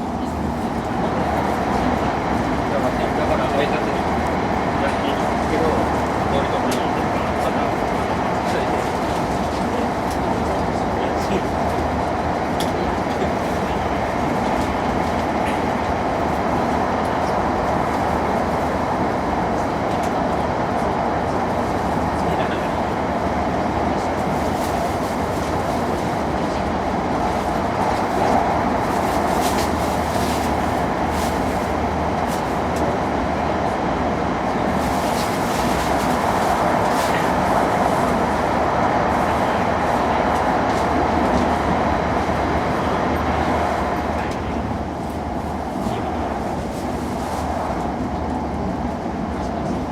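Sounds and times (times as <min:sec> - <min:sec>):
train rushing rumble: 0:00.0 - 0:49.9.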